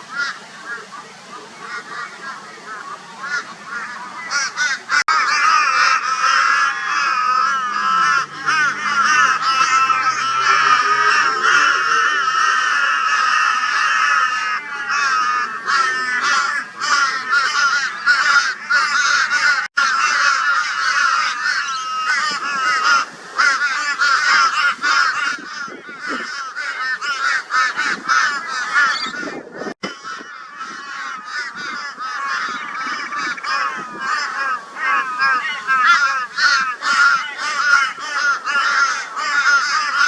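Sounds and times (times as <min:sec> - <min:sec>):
crows calling raucously: 0:00.0 - 0:00.9, 0:01.6 - 0:40.0.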